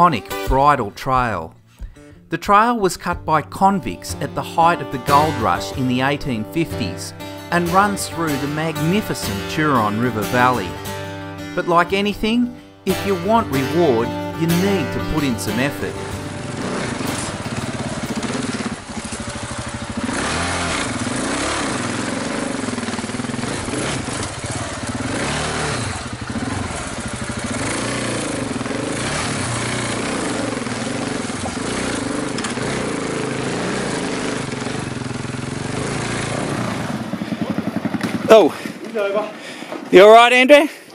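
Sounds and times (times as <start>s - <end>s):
motorcycle engine revving: 4.3s - 39.3s.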